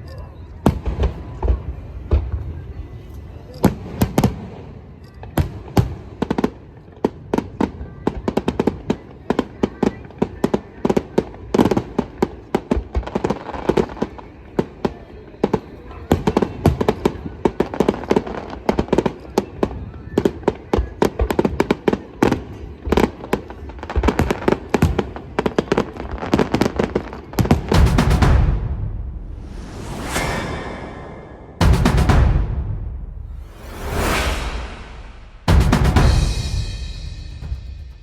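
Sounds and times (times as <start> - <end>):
fireworks bangs and crackles: 0.5 - 38.0.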